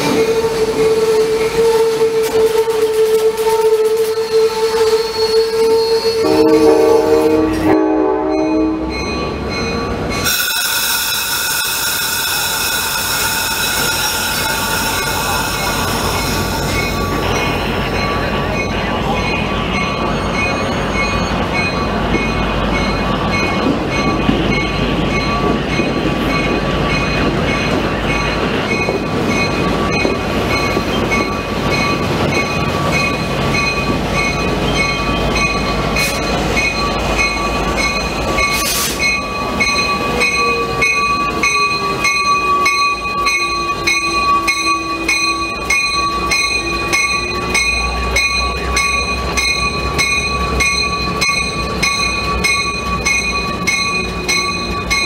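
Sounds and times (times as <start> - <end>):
train cars rumbling past: 0.0 - 55.0.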